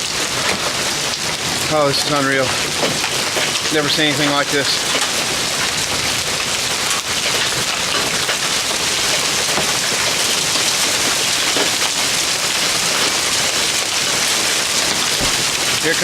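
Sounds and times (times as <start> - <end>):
clicks of hailstones striking: 0.0 - 16.0
hail and rain pelting down: 0.0 - 16.0.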